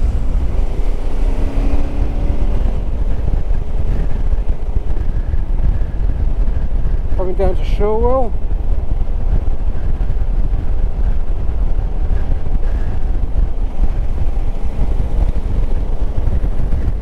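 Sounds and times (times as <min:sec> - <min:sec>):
motorcycle running: 0:00.0 - 0:17.0
wind rumble on microphone: 0:00.0 - 0:17.0.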